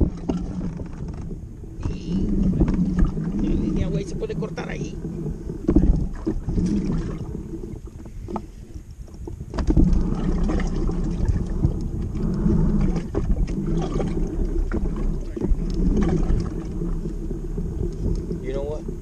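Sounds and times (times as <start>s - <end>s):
water lapping against hull: 0.0s - 19.0s
wind rumbling on microphone: 0.0s - 19.0s.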